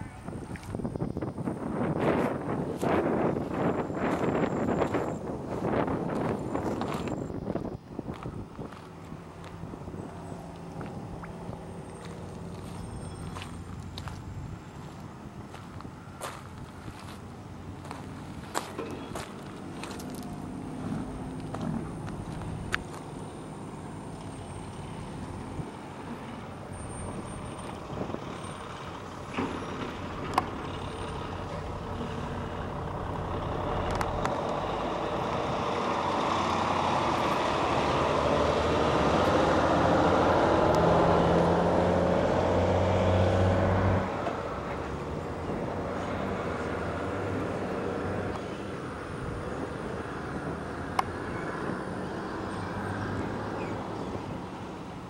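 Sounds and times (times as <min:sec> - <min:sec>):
heavy engine humming: 0:00.0 - 0:55.0.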